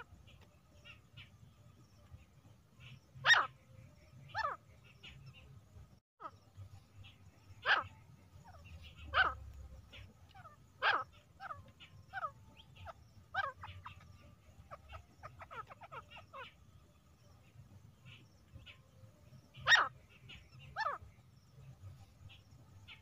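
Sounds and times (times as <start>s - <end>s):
bird calling: 0.0s - 2.2s, 2.8s - 5.5s, 6.2s - 21.2s
faint low hum: 0.0s - 23.0s.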